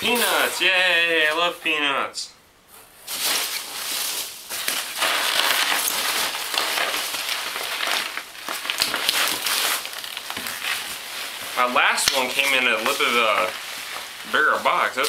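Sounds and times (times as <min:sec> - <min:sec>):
hands rustling packing peanuts: 0:00.0 - 0:01.6, 0:03.0 - 0:15.0.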